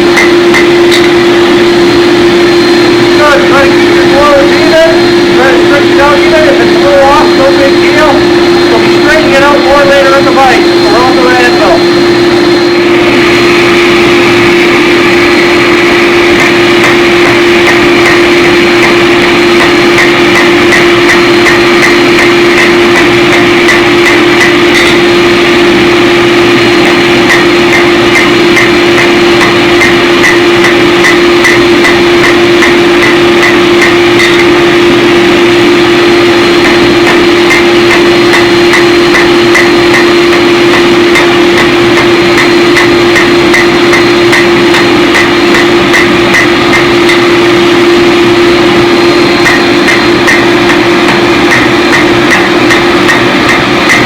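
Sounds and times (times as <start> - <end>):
hammer blows on steel: 0.0 - 54.0
machine hum: 0.0 - 54.0.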